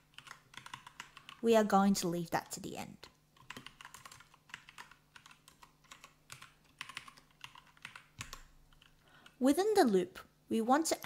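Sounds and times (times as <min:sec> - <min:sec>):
faint keyboard typing: 0:00.0 - 0:09.5.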